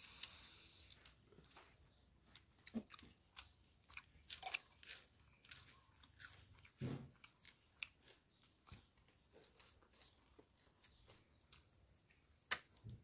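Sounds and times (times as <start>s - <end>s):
crunching of grilled fish: 0.1s - 13.0s.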